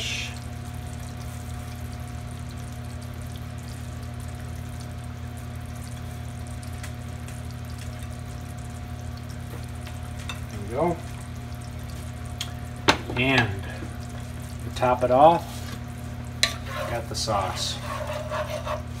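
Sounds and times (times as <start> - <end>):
sauce sizzling in a frying pan: 0.0 - 19.0
steady low hum: 0.0 - 19.0.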